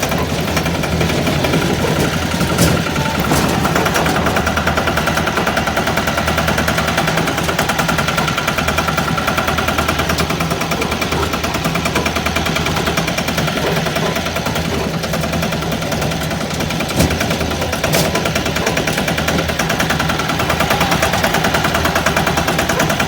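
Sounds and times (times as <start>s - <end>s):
diesel engine chugging: 0.0s - 23.0s
engine knock: 0.0s - 23.0s.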